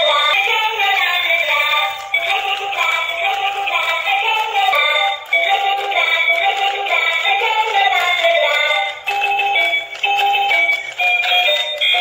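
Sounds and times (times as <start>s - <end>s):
electronic children's tune: 0.0s - 12.0s.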